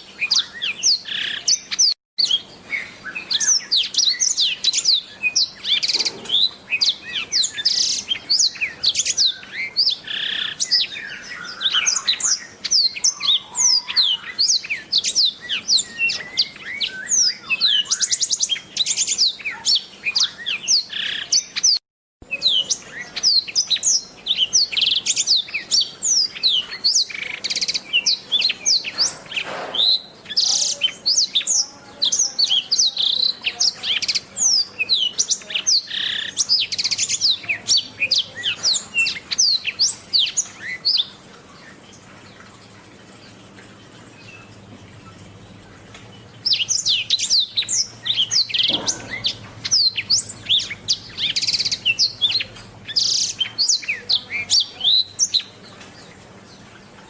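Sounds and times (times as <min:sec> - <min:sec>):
bird singing warbling song: 0:00.0 - 0:57.0.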